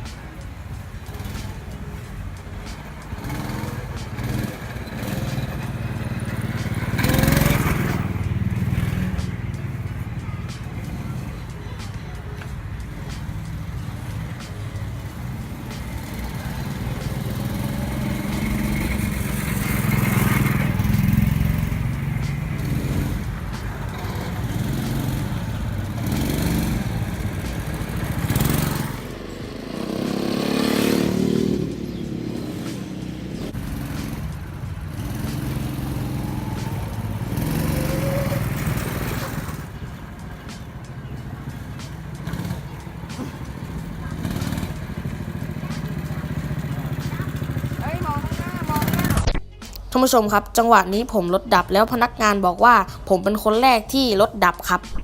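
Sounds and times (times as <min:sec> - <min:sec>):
small petrol engine revving: 0:00.0 - 0:49.3.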